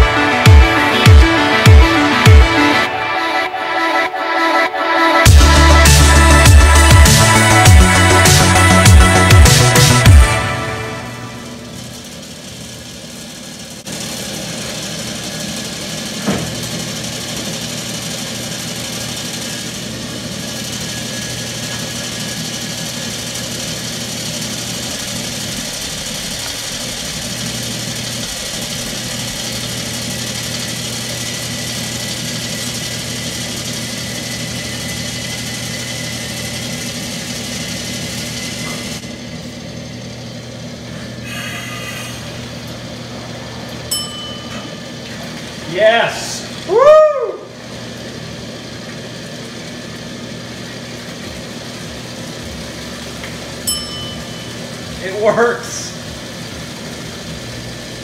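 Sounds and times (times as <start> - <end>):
fuel pump motor humming: 0.0 - 3.0, 5.2 - 58.0.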